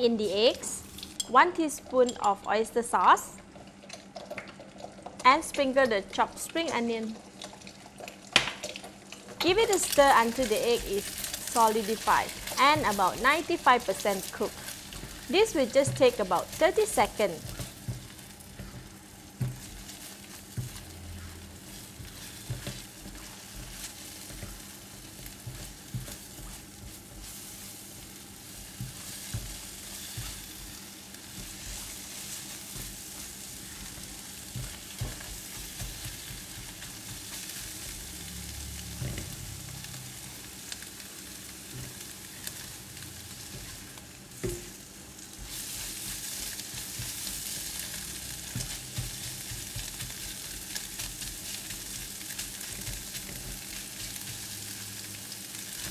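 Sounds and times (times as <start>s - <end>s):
eggs sizzling in oil: 0.0s - 55.9s.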